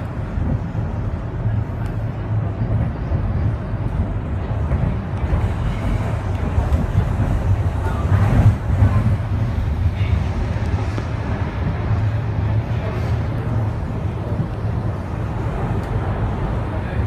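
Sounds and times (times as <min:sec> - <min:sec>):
suspension railway car rumbling: 0:00.0 - 0:17.0.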